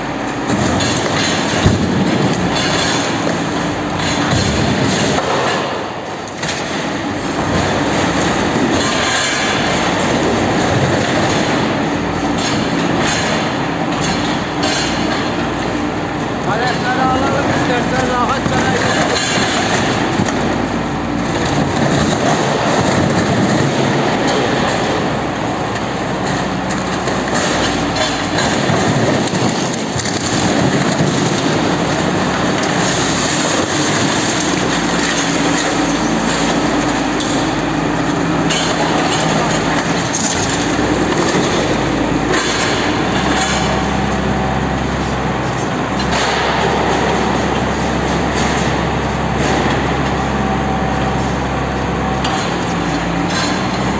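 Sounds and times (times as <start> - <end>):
heavy machinery rumbling: 0.0 - 53.9.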